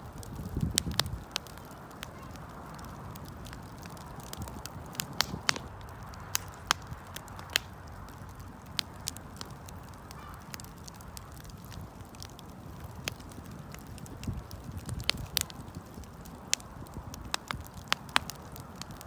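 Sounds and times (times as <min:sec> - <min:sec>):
campfire pops and snaps: 0:00.0 - 0:19.0
low rumble of flames: 0:00.0 - 0:19.0.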